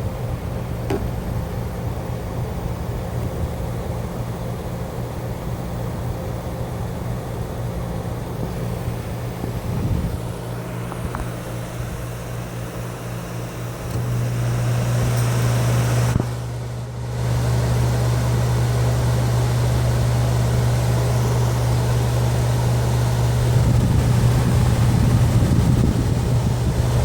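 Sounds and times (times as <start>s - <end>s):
air conditioner blowing air: 0.0s - 27.0s
low compressor hum: 0.0s - 27.0s.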